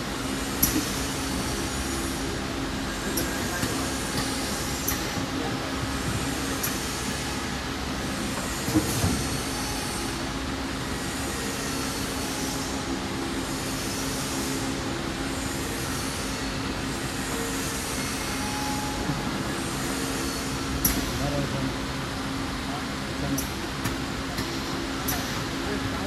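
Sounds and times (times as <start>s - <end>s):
filling line machinery running: 0.0s - 26.0s.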